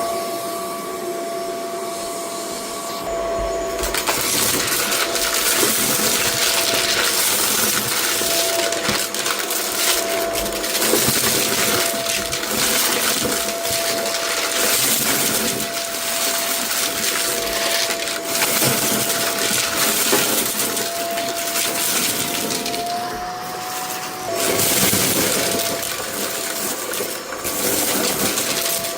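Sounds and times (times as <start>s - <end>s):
vacuum cleaner motor whine: 0.0s - 28.9s
debris rattling in vacuum: 2.8s - 28.9s.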